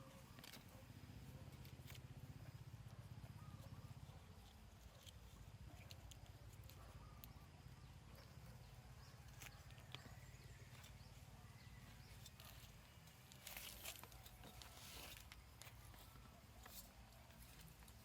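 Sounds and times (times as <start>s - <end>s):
faint clicks and rustles: 0.0s - 18.0s
low steady background hum: 0.0s - 18.0s.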